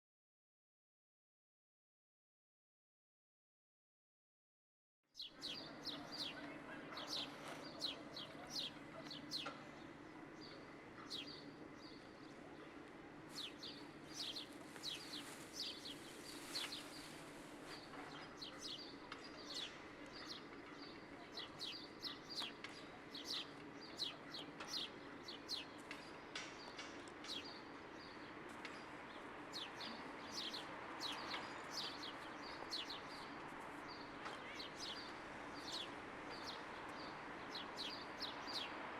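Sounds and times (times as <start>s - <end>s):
birds chirping: 5.2s - 38.9s.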